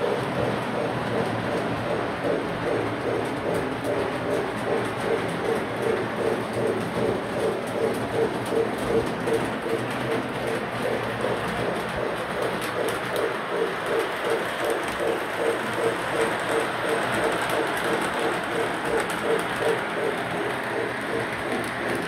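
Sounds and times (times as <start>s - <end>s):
model train rumbling on track: 0.0s - 22.0s.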